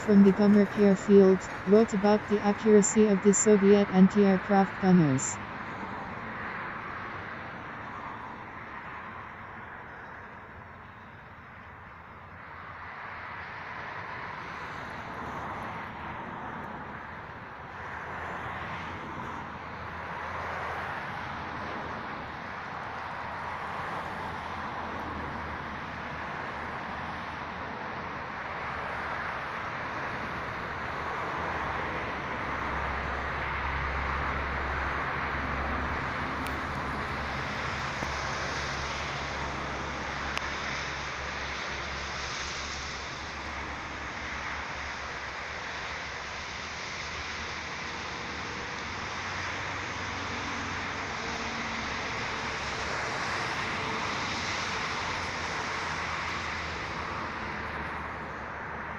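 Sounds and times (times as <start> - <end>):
outdoor traffic noise: 0.0 - 58.9
passing vehicle rumble: 0.0 - 58.9.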